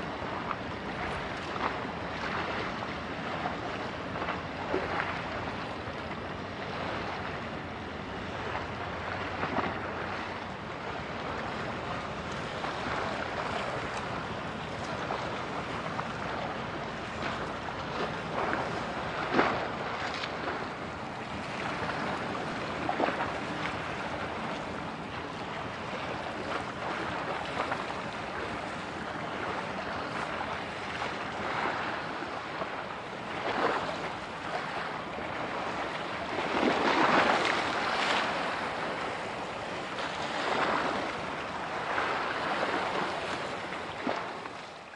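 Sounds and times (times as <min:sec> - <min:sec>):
choppy sea water: 0:00.0 - 0:44.9
wind buffeting microphone: 0:00.0 - 0:44.9.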